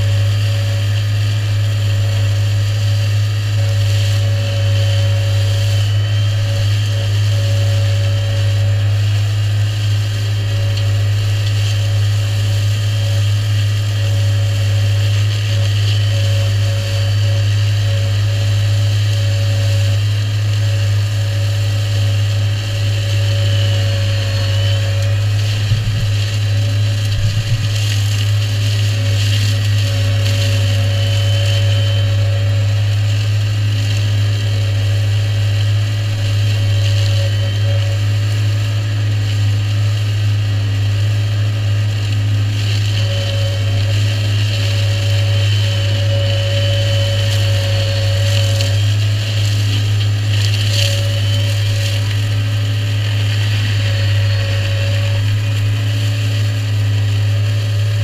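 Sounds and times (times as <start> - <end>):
hedge cutter high whine: 0.0 - 58.0
tractor engine drone: 0.0 - 58.0.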